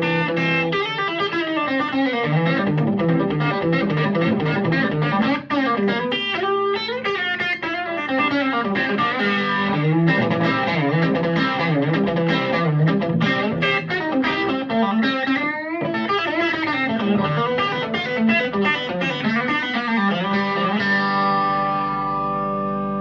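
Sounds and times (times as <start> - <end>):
overdriven electric guitar: 0.0 - 23.0.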